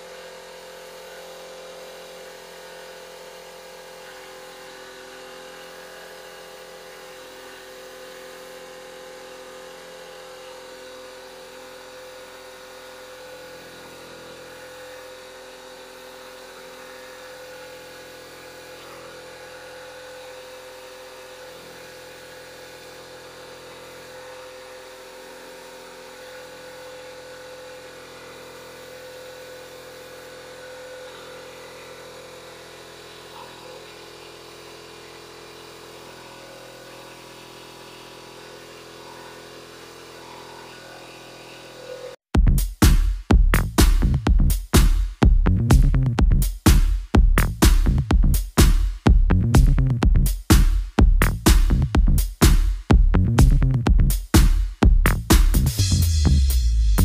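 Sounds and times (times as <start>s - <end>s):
air compressor motor hum: 0.0s - 42.2s, 42.8s - 57.0s.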